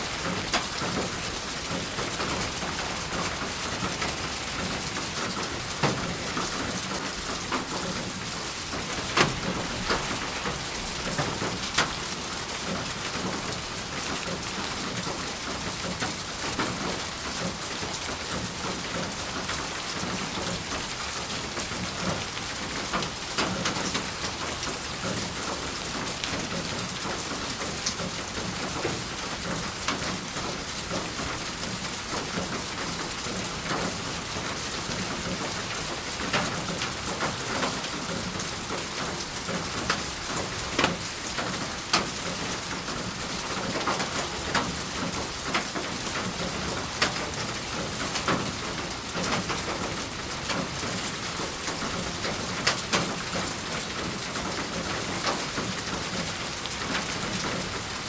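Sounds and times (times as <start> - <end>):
rain on a hard surface: 0.0 - 58.0.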